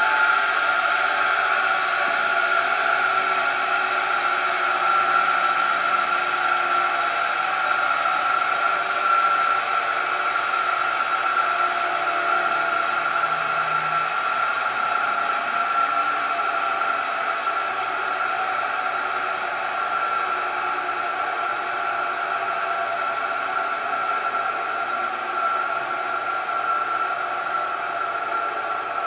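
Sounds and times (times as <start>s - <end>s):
sander motor whirring: 0.0s - 29.0s.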